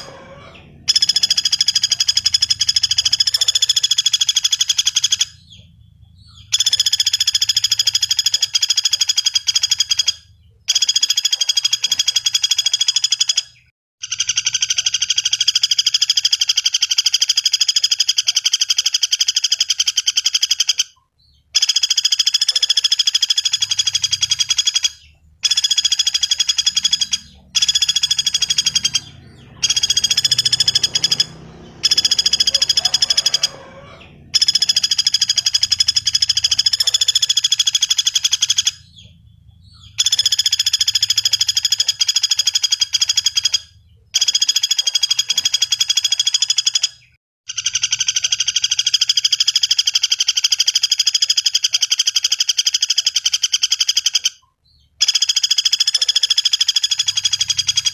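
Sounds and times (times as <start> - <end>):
woodpecker rattling trills: 0.0 - 57.9.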